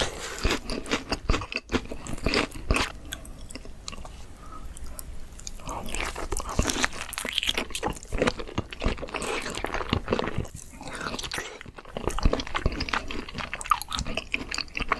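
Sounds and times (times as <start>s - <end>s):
crunching fried shrimp: 0.0s - 4.1s, 4.9s - 14.9s.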